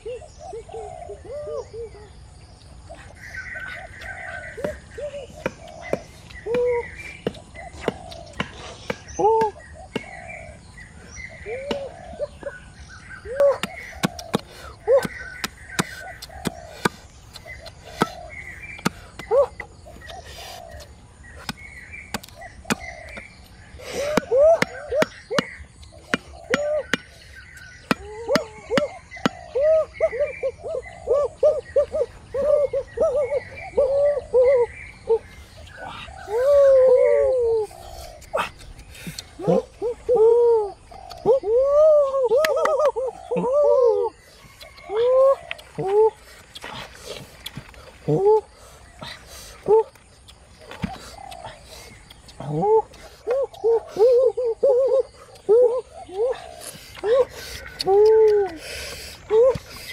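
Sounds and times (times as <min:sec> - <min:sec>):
birds chirping: 0:00.0 - 0:59.9
steady chirring background: 0:00.0 - 0:59.9.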